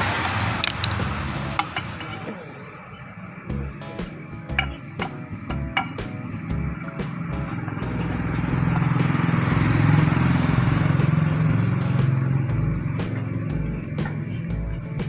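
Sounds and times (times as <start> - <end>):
motorcycle engine running: 0.0 - 2.4, 3.2 - 15.0.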